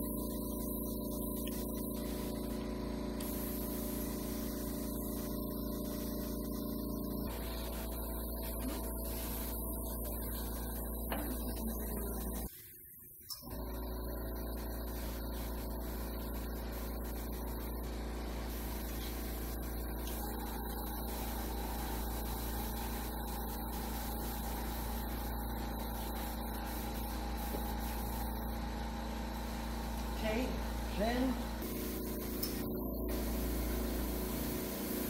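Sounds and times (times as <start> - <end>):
compressor humming: 0.0 - 12.5, 13.4 - 35.0.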